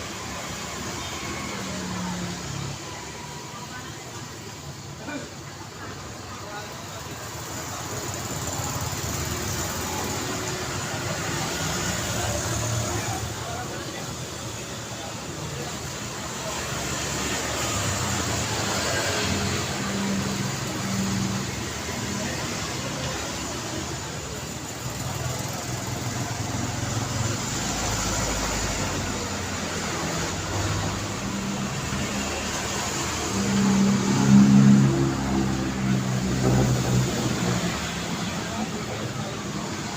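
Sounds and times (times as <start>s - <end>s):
steady traffic noise: 0.0s - 39.9s
vehicle engine rumbling: 0.0s - 39.9s.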